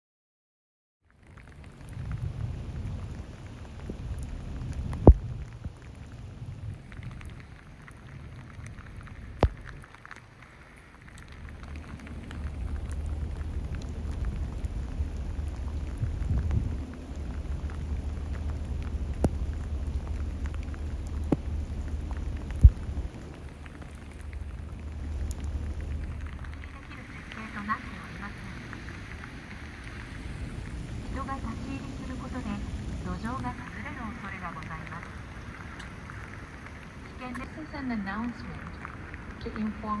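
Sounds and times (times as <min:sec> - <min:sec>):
heavy rain: 0:01.1 - 0:40.0
low rumble: 0:01.2 - 0:40.0.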